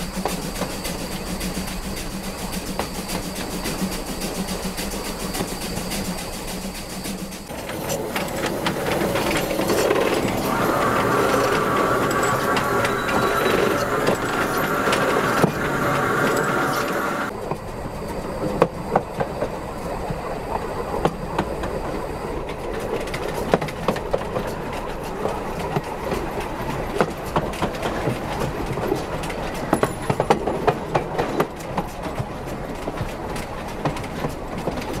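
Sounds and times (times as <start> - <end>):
steam locomotive rumbling: 0.0 - 35.0
train wheels clicking over rail joints: 0.0 - 35.0.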